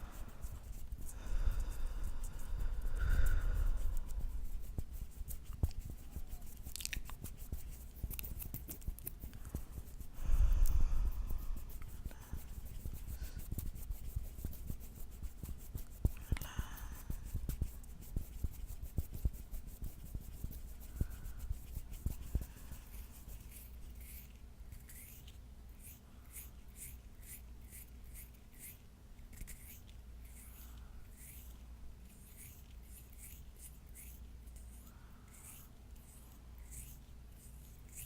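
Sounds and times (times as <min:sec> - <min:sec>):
fingernails scratching skin: 0:00.0 - 0:10.2, 0:11.2 - 0:38.0
fingers rubbing skin: 0:00.0 - 0:31.5.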